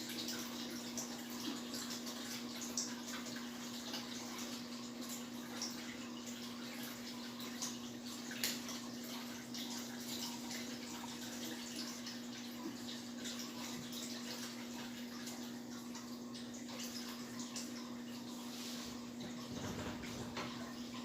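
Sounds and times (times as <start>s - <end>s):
room hum and hiss: 0.0s - 21.0s.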